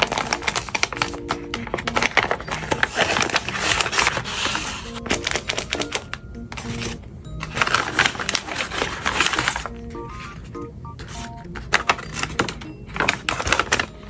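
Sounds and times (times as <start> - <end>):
light background music: 0.0 - 14.0
paper crinkling and rustling: 0.0 - 14.0.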